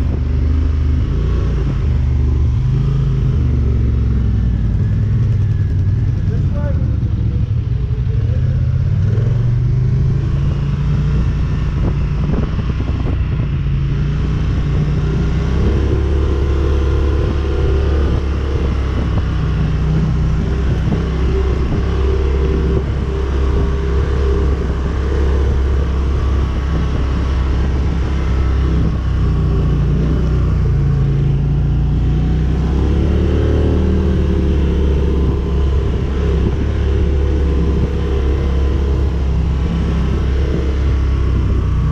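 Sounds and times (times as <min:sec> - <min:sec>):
quad bike engine running: 0:00.0 - 0:41.9.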